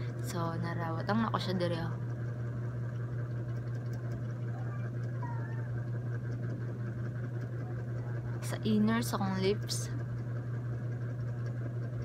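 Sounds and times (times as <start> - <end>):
steady low appliance hum: 0.0 - 12.0.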